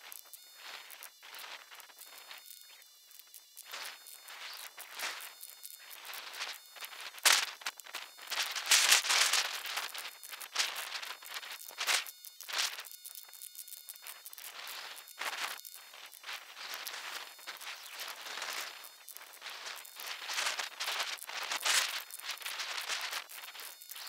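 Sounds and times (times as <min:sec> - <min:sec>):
thin high whine: 0:00.0 - 0:24.0.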